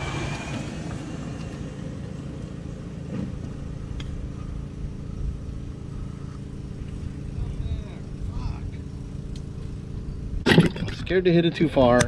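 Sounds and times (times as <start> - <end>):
water pump engine humming: 0.0 - 12.0.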